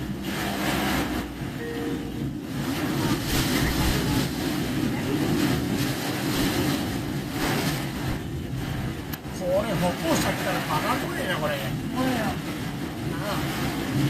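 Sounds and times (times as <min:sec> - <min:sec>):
car engine running: 0:00.0 - 0:14.0
rain on car body: 0:00.0 - 0:14.0
tyres ploughing through water: 0:00.0 - 0:14.0.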